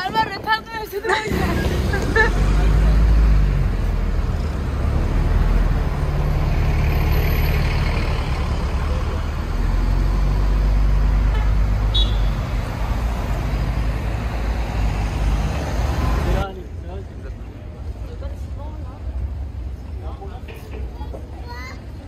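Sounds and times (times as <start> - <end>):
bus engine droning: 0.0 - 22.0
cars driving past: 1.1 - 21.0.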